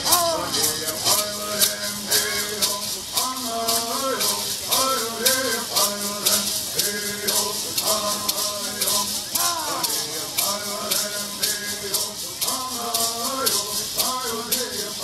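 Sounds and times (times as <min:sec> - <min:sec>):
gourd rattles shaken: 0:00.0 - 0:15.0
voices singing gliding melody: 0:00.0 - 0:15.0.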